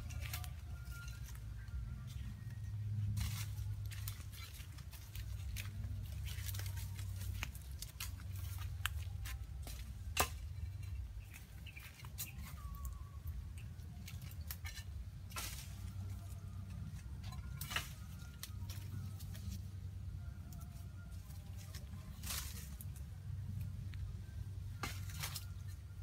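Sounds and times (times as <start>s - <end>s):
steady low hum: 0.0s - 26.0s
twigs and leaves crackling: 0.0s - 26.0s.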